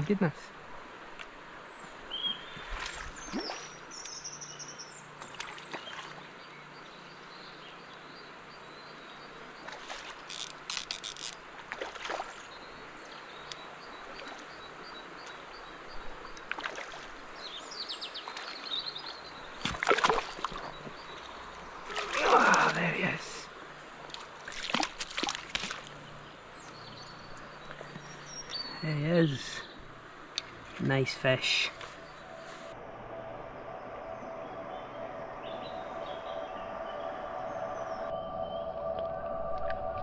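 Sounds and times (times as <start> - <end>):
birds chirping faintly: 0.0 - 38.9.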